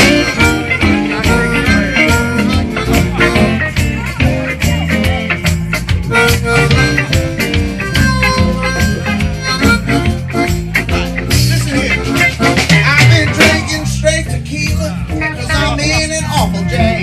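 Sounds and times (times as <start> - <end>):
band beat: 0.0 - 17.0
electric guitar: 0.0 - 17.0
harmonica playing: 0.0 - 17.0.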